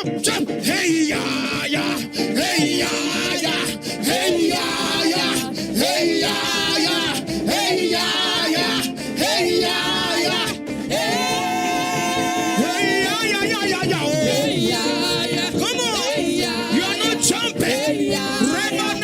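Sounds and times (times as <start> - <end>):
upbeat church praise music: 0.0 - 19.0.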